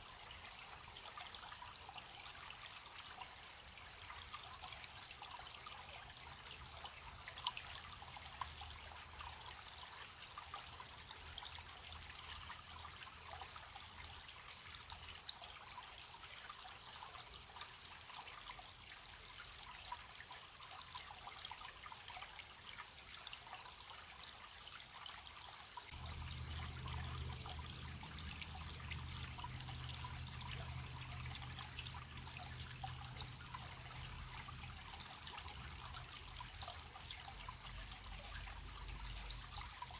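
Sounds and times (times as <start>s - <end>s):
crickets chirping: 0.0s - 22.1s, 22.7s - 39.9s
stream trickling: 0.0s - 39.9s.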